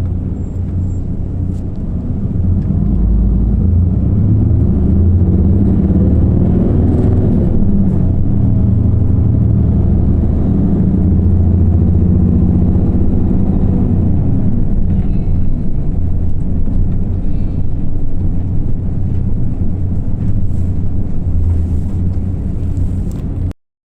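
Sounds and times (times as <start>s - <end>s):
bus diesel engine running: 0.0s - 23.5s
cooling fan: 0.0s - 23.5s.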